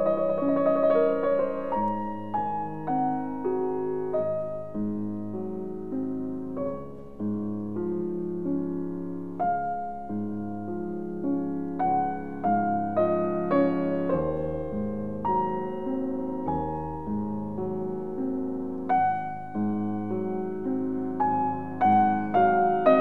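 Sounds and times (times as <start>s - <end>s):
gentle solo piano: 0.0s - 23.0s.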